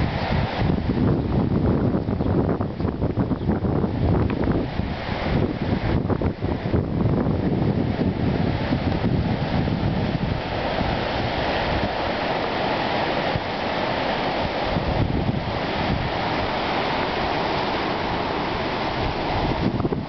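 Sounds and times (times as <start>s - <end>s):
surf breaking on rocks: 0.0s - 20.0s
wind on microphone: 0.0s - 20.0s.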